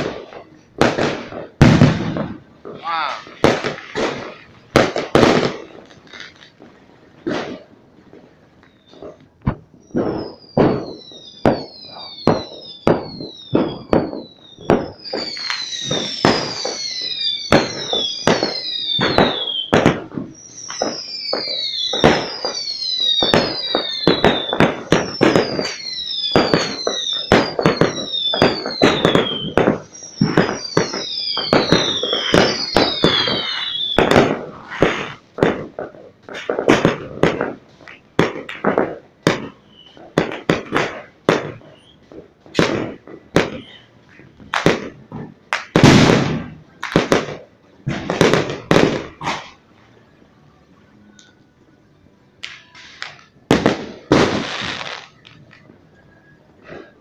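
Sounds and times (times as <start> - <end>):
fireworks bangs and crackles: 0.0 - 57.0
falling firework whistles: 8.3 - 49.6, 52.4 - 57.0.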